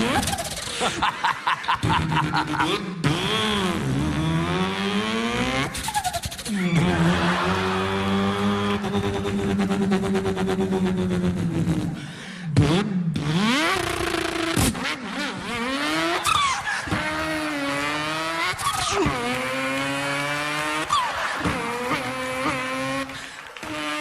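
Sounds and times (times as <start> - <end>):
man imitating car engine: 0.0 - 24.0.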